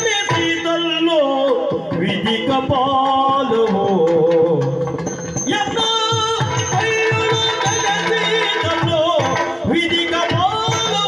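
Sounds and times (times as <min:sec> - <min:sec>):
man singing ornamented melody: 0:00.0 - 0:11.0.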